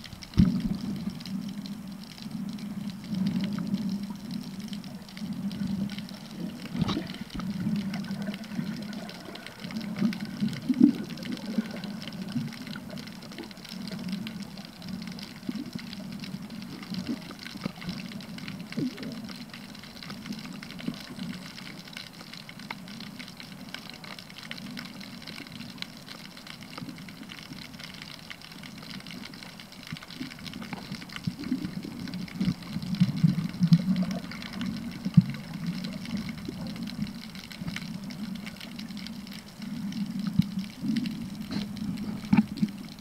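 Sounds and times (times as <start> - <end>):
faint hiss: 0.0 - 43.0
small clicks: 0.0 - 43.0
surges of moving water: 0.0 - 43.0
underwater rumble: 0.0 - 43.0.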